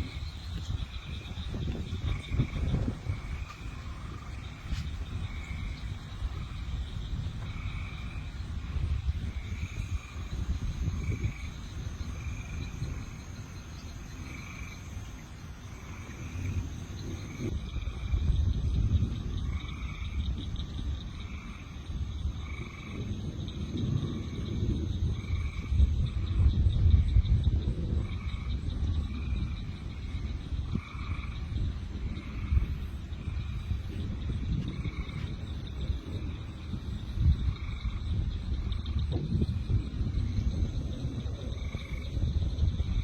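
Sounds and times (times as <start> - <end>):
faint pulsing frog chorus: 0.0 - 43.0
frogs trilled calls: 0.0 - 43.0
high insect drone: 0.0 - 43.0
low gusty rumble: 0.0 - 43.0.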